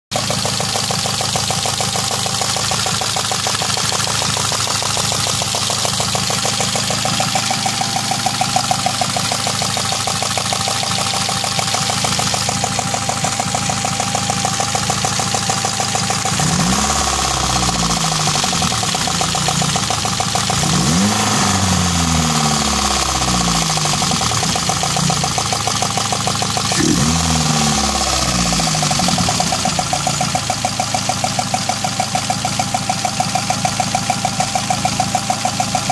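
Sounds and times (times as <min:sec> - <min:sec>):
car engine idling and revving: 0:00.1 - 0:35.9
fast rhythmic engine ticking: 0:00.1 - 0:35.9.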